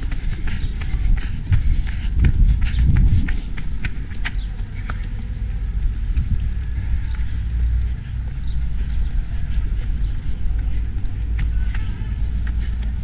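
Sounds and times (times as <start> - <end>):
footfalls on asphalt: 0.0 - 13.0
wind rumbling on microphone: 0.0 - 13.0.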